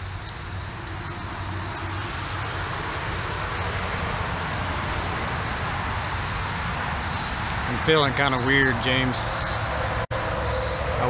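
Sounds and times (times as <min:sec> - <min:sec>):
engine drone with rushing noise: 0:00.0 - 0:11.0
high insect buzz: 0:00.0 - 0:11.0.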